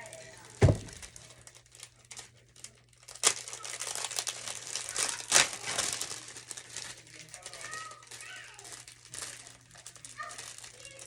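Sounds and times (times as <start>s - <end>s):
plastic crinkling and rustling: 0.0s - 11.0s
sharp plastic crackle: 0.0s - 11.0s.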